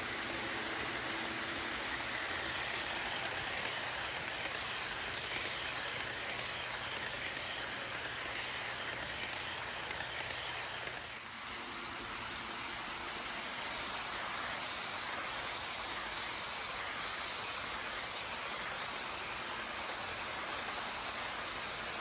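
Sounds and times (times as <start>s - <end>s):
model trains running on track: 0.0s - 22.0s.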